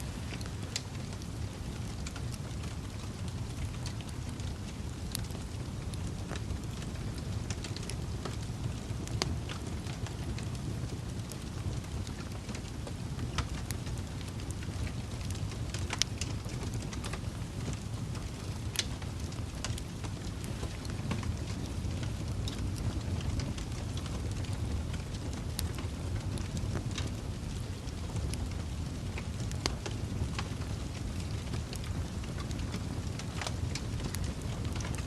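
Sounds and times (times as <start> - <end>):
wood fire crackling: 0.0 - 35.0
sharp pops of burning logs: 0.1 - 35.0.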